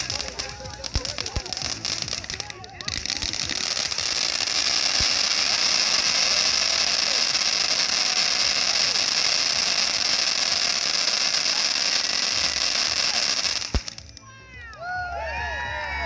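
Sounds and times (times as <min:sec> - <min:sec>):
firework fountain hissing: 0:00.0 - 0:14.6.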